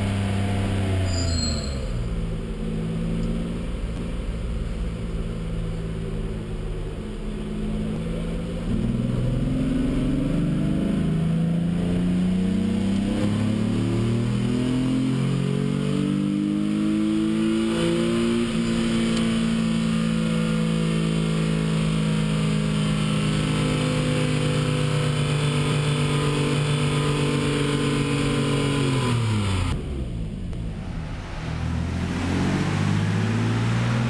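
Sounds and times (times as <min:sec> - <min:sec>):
car engine revving at full throttle: 0:05.7 - 0:34.0.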